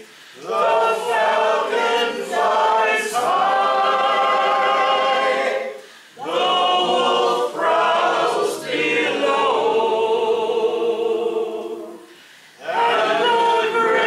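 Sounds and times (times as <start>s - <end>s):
group singing a cappella: 0.0s - 14.0s.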